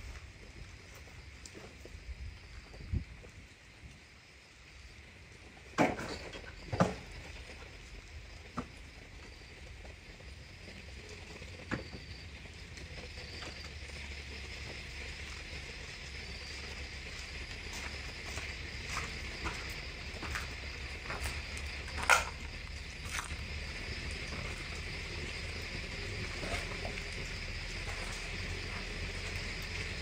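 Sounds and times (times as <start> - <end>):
night insects chirring: 0.0 - 30.0.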